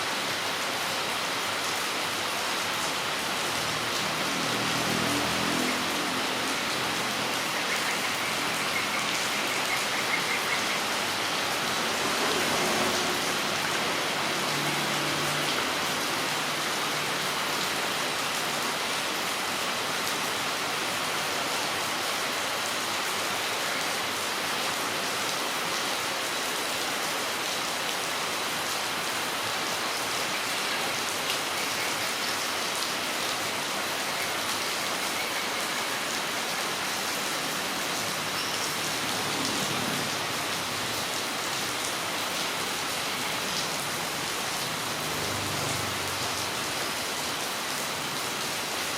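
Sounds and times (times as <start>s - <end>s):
rain falling on ground: 0.0s - 48.9s.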